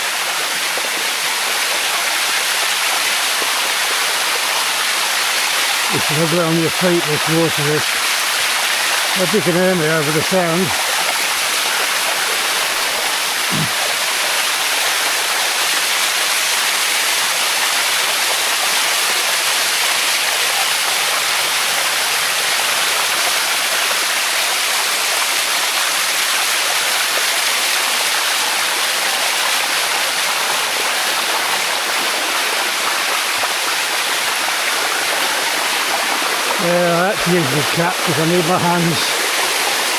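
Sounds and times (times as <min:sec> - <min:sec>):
water cascading over waterfall steps: 0:00.0 - 0:39.9.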